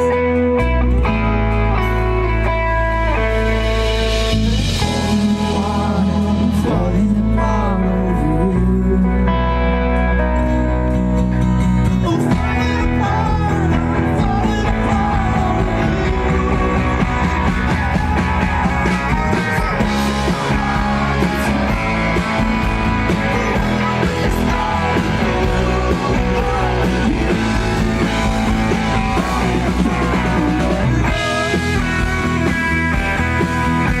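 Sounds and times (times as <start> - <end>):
rock band with guitar and singing: 0.0 - 34.0.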